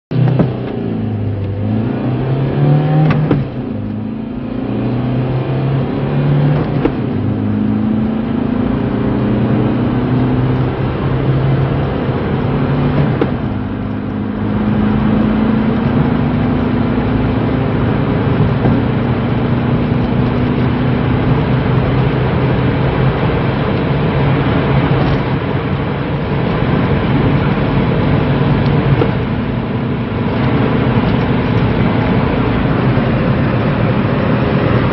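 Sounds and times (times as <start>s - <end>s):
diesel car accelerating hard: 0.1s - 34.9s.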